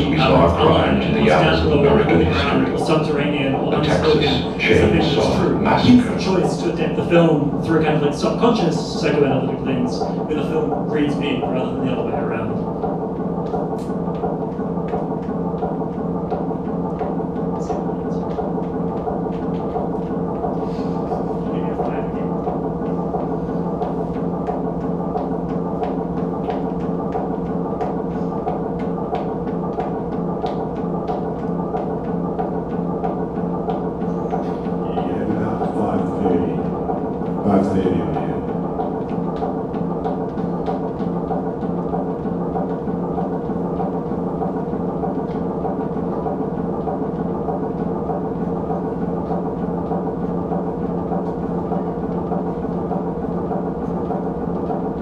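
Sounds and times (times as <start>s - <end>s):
dark droning soundtrack: 0.0s - 55.0s.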